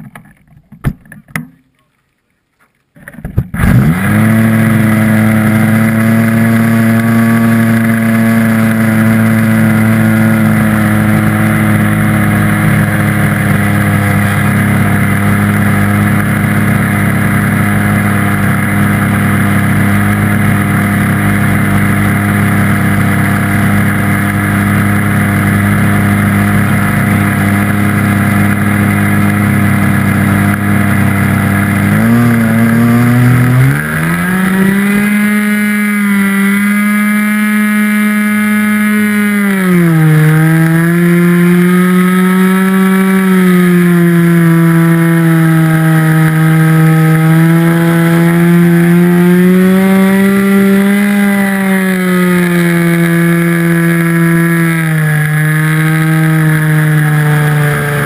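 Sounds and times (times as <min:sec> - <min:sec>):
model airplane engine running: 0:03.6 - 0:58.0.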